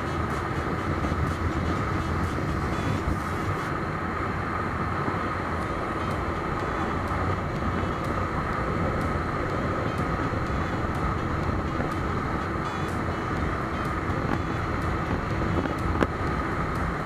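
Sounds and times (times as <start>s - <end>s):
motorcycle engine running: 0.0s - 3.7s, 4.6s - 17.0s
wind rush: 0.0s - 17.0s.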